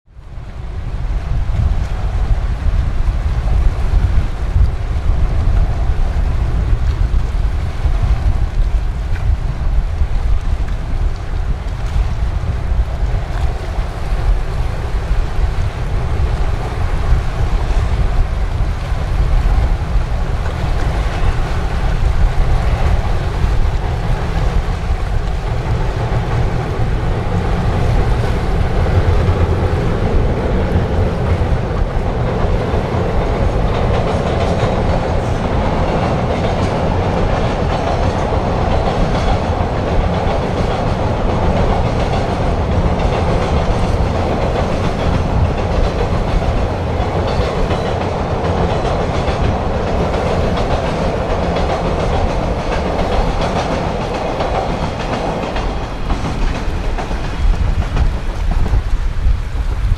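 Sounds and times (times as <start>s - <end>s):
wind buffeting microphone: 0.0s - 59.9s
freight train rolling on rails: 0.1s - 59.9s.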